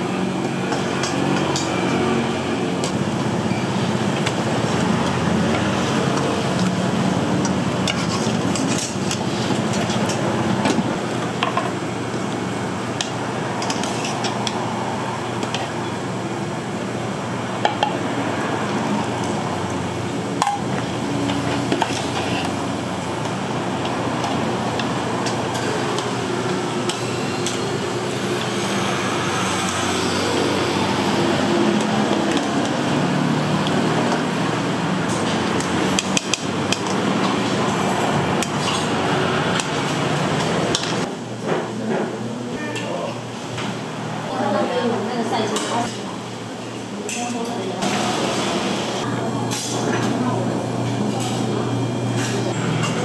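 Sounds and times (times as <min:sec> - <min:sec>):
steady hum and hiss: 0:00.0 - 0:53.0.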